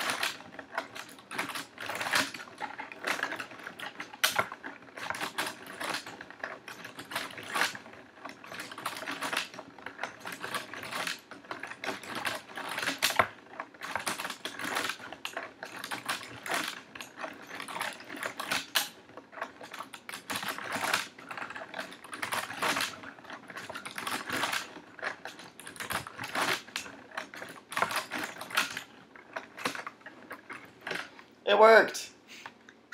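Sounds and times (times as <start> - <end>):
plastic mechanism clicking and clacking: 0.0 - 31.4.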